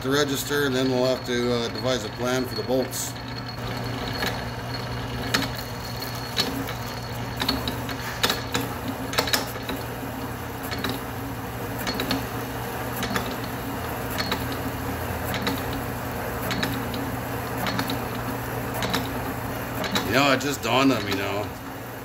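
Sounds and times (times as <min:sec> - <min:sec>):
lathe drive humming: 0:00.0 - 0:22.0.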